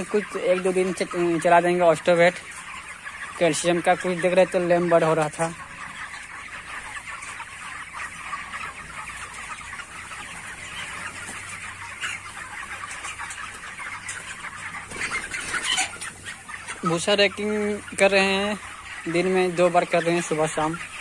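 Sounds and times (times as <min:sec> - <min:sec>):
chickens clucking and cheeping: 0:00.0 - 0:21.0.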